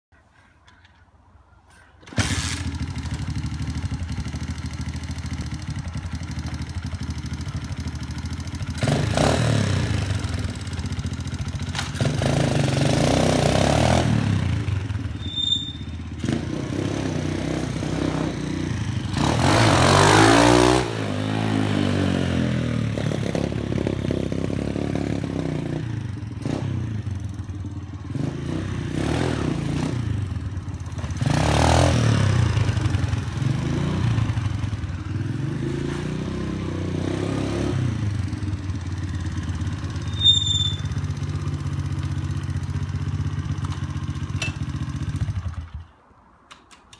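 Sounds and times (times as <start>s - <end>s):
motorbike engine revving: 2.0s - 45.8s.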